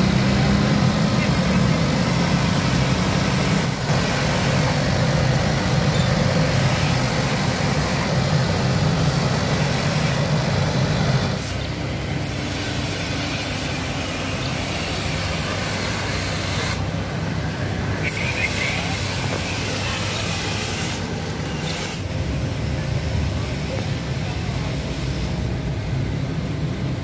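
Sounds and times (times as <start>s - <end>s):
hoses spraying hiss: 0.0s - 26.7s
truck engines running: 0.0s - 27.0s.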